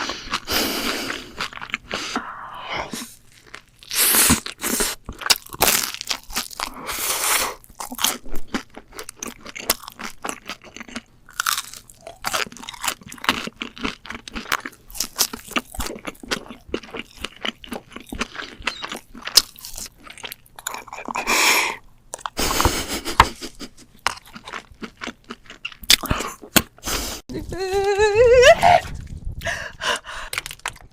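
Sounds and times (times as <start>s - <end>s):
crunchy chewing: 0.0s - 2.3s, 2.9s - 26.8s.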